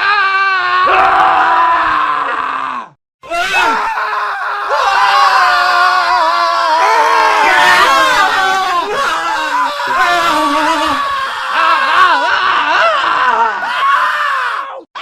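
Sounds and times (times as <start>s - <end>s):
man screaming: 0.0s - 14.8s.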